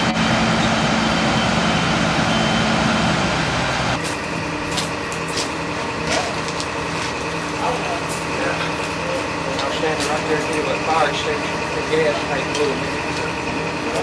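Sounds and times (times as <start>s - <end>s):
engine running with low hum: 0.0s - 14.0s.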